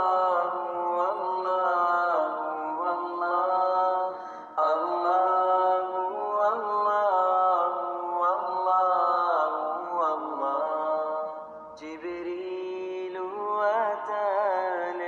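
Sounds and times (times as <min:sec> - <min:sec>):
unaccompanied vocal chant: 0:00.0 - 0:15.0.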